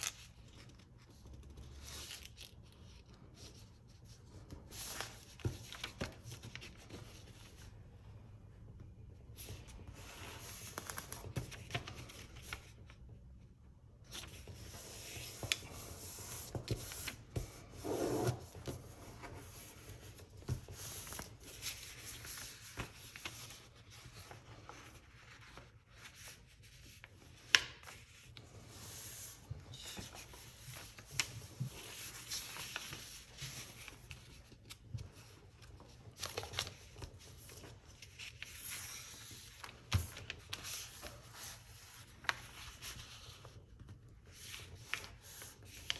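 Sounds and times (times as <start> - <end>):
paper being folded by hand: 0.0 - 45.9.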